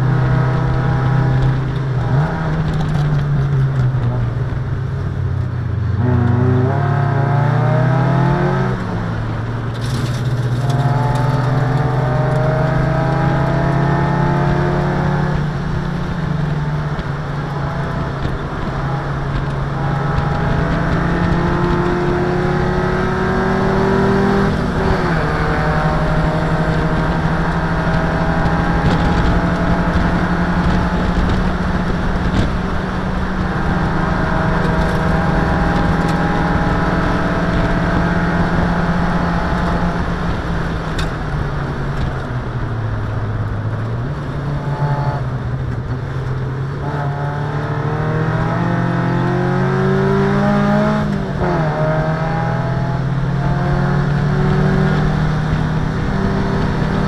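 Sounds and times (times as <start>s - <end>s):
race car engine under load: 0.0s - 57.0s
road and wind noise: 0.0s - 57.0s.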